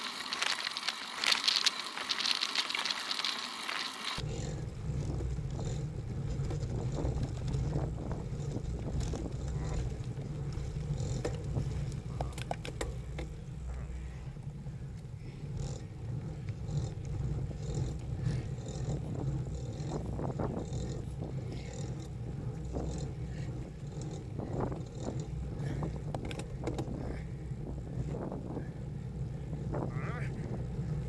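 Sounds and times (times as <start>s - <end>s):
wind on microphone: 4.2s - 31.0s.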